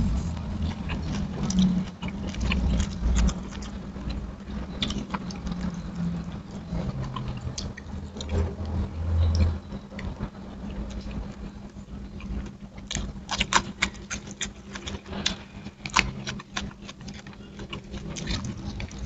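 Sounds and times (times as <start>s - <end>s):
chewing and lip-smacking: 0.0s - 19.0s
low steady hum: 0.0s - 19.0s.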